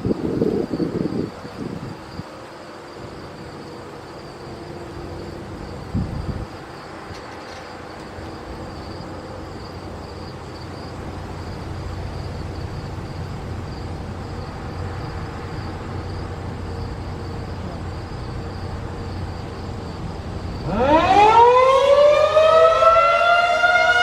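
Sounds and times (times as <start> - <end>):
distant vehicles rumbling: 0.0 - 24.0
insects buzzing: 0.0 - 24.0.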